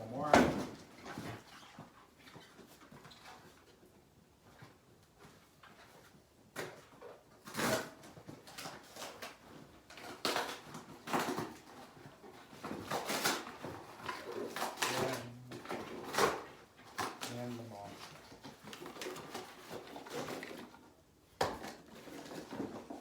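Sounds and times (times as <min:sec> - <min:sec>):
packaging rustling and crinkling: 0:00.0 - 0:23.0.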